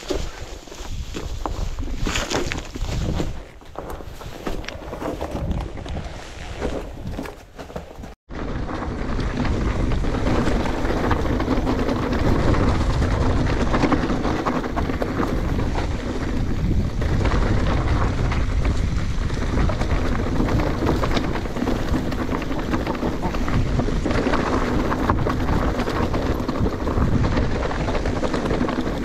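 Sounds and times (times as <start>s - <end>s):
wind buffeting microphone: 0.0s - 7.3s, 8.3s - 29.0s
bike rattling on rough trail: 0.0s - 29.0s.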